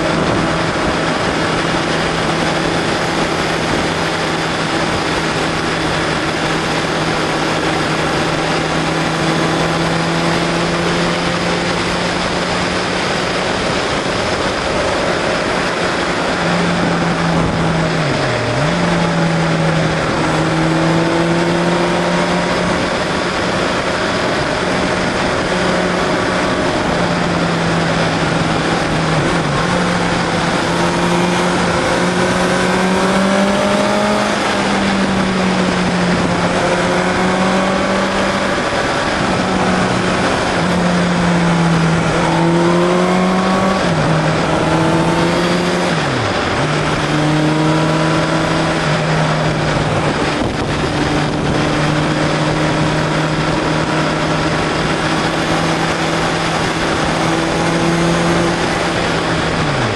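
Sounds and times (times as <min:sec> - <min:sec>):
motorcycle engine at speed: 0:00.0 - 0:59.9
wind rush on microphone: 0:00.0 - 0:59.9.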